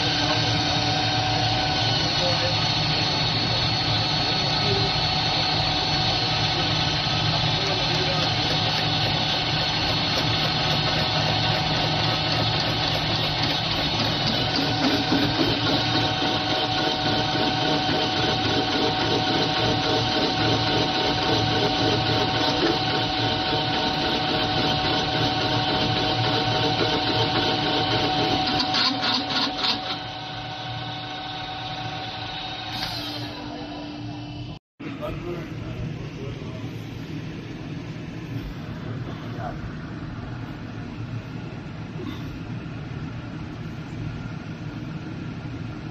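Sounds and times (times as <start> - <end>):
production machinery humming: 0.0 - 45.9.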